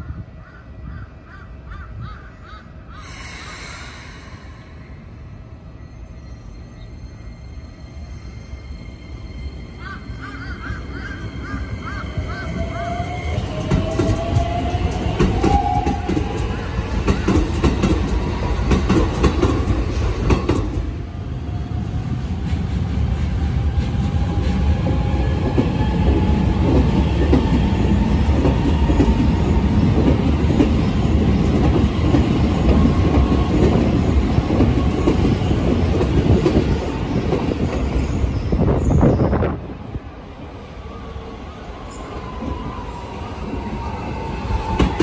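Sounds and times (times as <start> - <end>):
train rumbling past: 0.0 - 45.0
faint train whine: 2.7 - 45.0.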